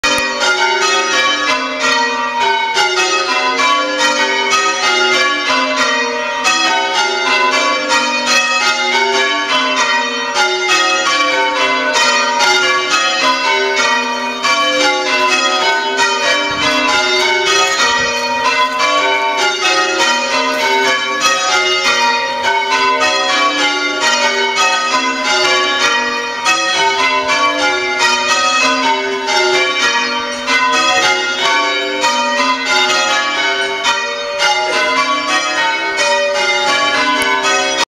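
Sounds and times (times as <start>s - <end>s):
church bells change ringing: 0.0s - 37.9s.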